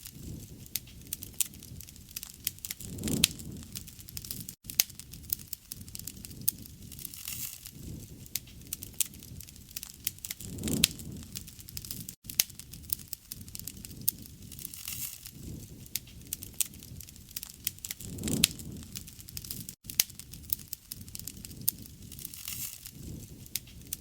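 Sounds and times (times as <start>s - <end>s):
bonfire crackling and popping: 0.0s - 24.0s.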